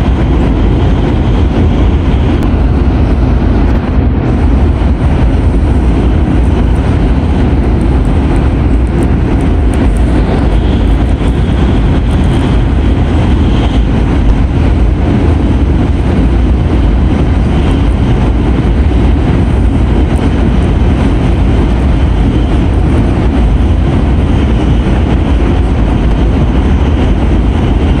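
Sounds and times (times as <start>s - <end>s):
train rumble and hiss: 0.0s - 28.0s.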